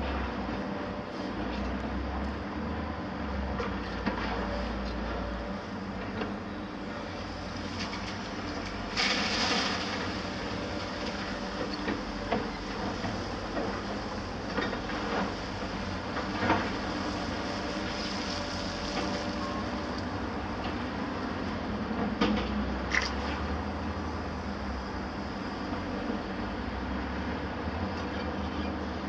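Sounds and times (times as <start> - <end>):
heavy machinery diesel engines: 0.0 - 29.0.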